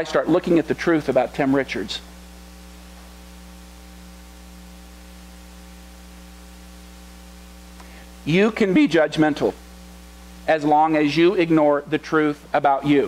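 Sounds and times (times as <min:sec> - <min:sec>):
electrical mains hum: 0:00.0 - 0:13.0
faint hiss: 0:00.0 - 0:13.0.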